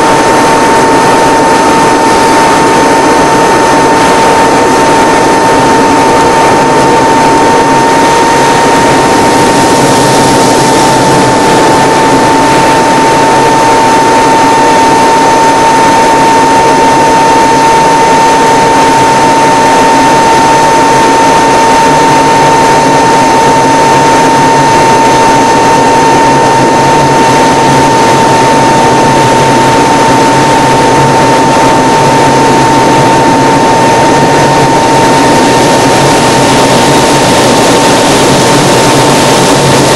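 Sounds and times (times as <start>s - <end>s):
constant high whine: 0.0s - 39.9s
propeller airplane engine drone: 0.0s - 39.9s.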